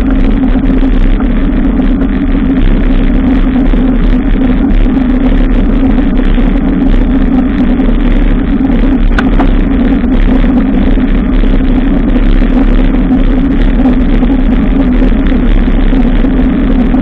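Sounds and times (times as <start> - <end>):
bicycle riding rumble: 0.0 - 17.0
wind noise on microphone: 0.0 - 17.0.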